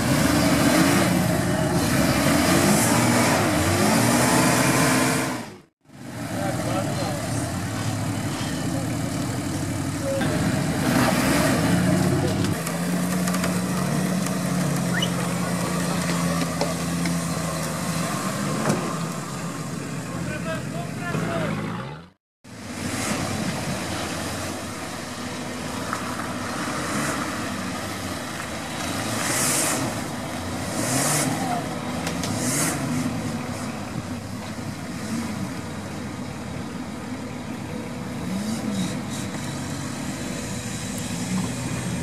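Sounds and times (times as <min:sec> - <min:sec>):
car engine revving: 0:00.0 - 0:36.1.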